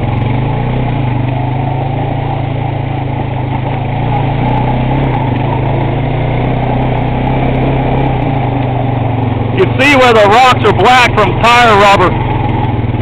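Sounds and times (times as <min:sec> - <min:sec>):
atv engine running steadily: 0:00.0 - 0:13.0.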